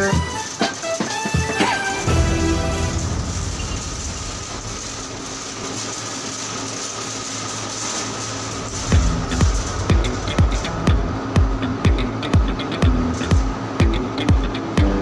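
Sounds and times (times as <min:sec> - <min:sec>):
engine room machinery drone: 0:00.0 - 0:15.0.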